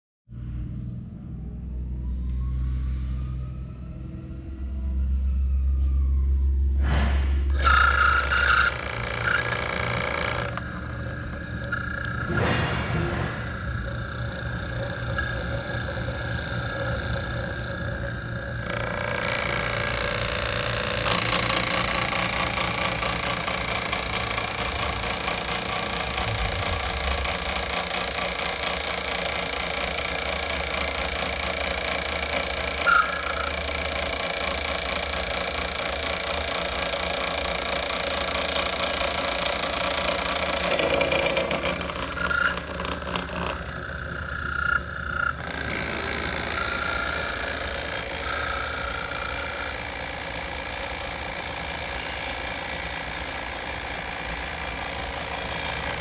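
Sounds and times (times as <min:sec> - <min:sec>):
power feed motor whine: 0:02.1 - 0:56.0.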